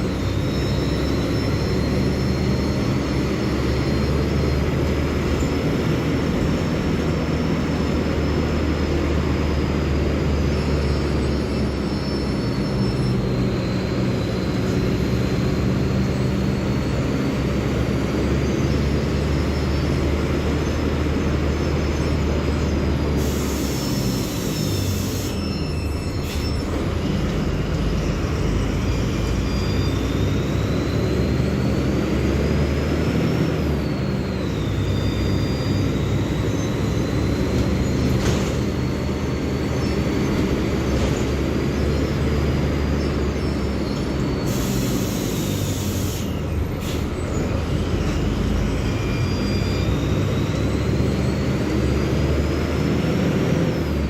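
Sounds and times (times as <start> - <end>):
bus diesel engine whining: 0.0 - 54.0.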